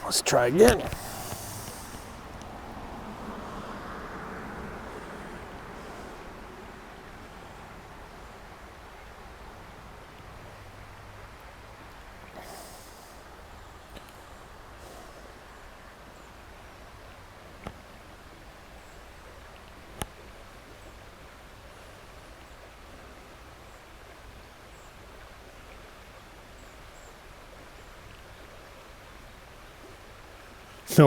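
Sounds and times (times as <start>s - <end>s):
outdoor ambience hiss: 0.0s - 31.0s.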